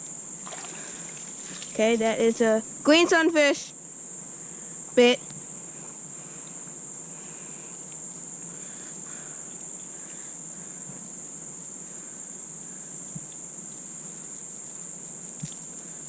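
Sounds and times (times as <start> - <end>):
insect chorus trilling: 0.0 - 16.0.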